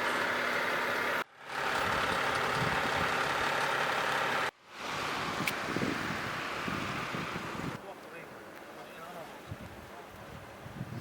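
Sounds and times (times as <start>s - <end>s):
vehicle engines idling: 0.0s - 10.5s.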